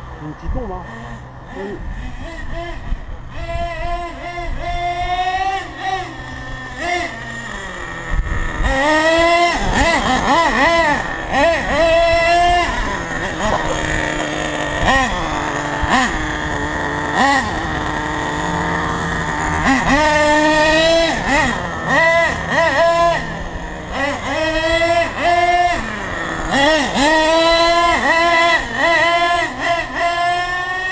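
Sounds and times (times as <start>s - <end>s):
high-pitched model engine revving: 0.0s - 30.9s.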